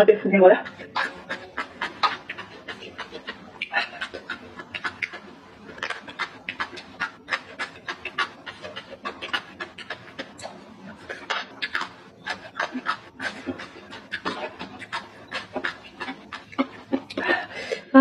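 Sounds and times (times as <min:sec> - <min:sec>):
crunchy chewing: 0:00.6 - 0:17.8
mouth smacks: 0:00.6 - 0:17.9.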